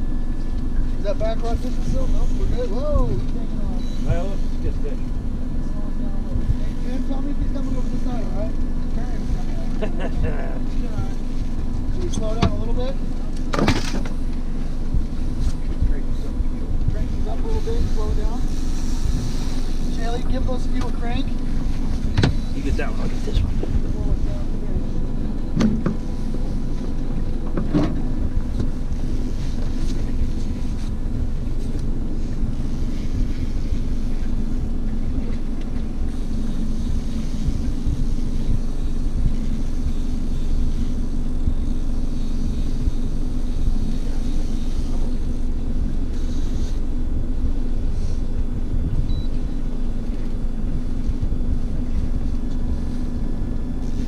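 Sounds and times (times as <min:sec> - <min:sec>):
boat motor humming: 0:00.0 - 0:54.0.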